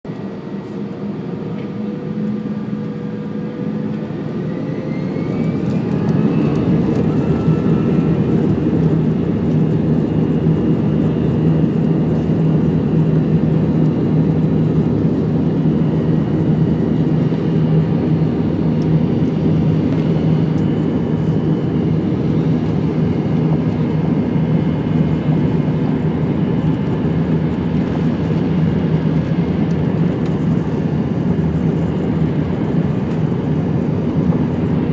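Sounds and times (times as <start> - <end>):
jet engines spooling up: 0.2 - 34.9.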